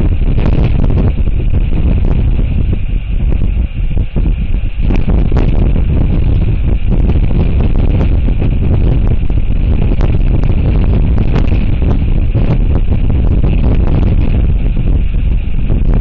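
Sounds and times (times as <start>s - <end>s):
crackles: 0.0s - 16.0s
wind buffeting microphone: 0.0s - 16.0s.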